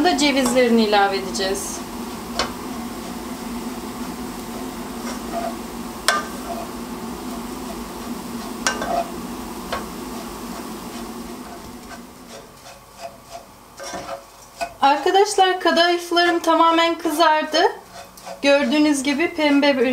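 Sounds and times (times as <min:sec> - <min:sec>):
pastry sizzling in a pan: 0:00.0 - 0:19.9.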